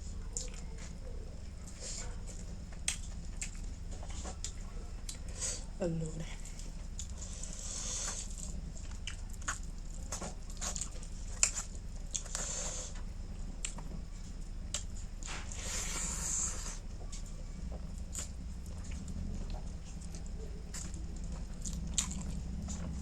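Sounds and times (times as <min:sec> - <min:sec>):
wet chewing and smacking: 0:00.0 - 0:23.0.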